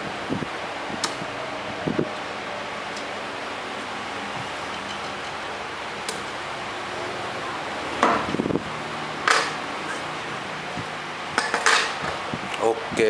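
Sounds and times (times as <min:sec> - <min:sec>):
room noise hum: 0:00.0 - 0:13.0.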